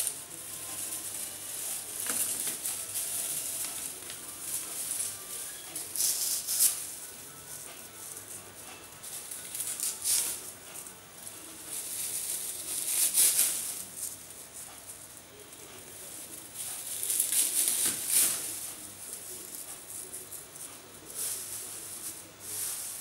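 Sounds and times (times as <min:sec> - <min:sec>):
dried rosemary rustling and crackling: 0:00.0 - 0:23.0.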